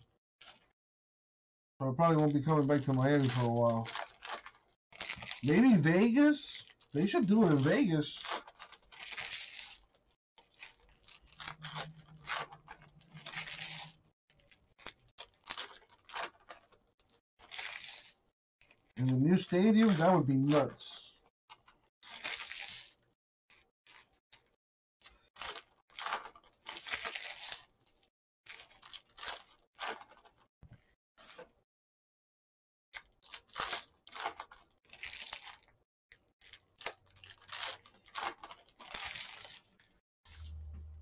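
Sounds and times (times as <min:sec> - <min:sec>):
foil wrapper crinkling and tearing: 0:00.4 - 0:00.7, 0:02.0 - 0:30.5, 0:31.2 - 0:31.6, 0:33.0 - 0:40.6.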